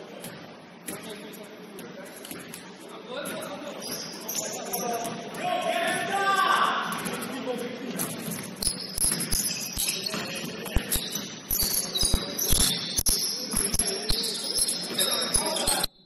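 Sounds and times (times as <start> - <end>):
sneakers squeaking on gym floor: 0.0 - 16.0.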